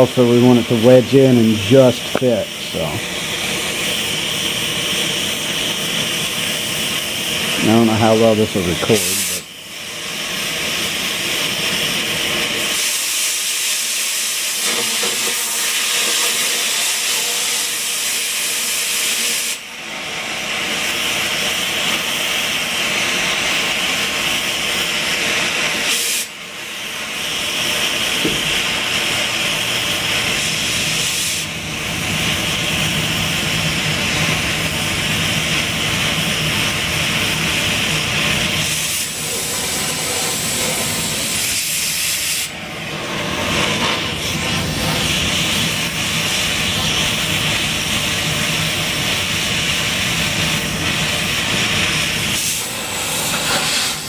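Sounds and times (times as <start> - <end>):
cutting torch hissing: 0.0 - 54.0.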